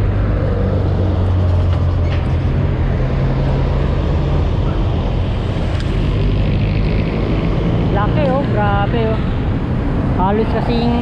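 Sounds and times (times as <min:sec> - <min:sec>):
cars and motorcycles passing: 0:00.0 - 0:11.0
diesel engine humming: 0:00.0 - 0:11.0.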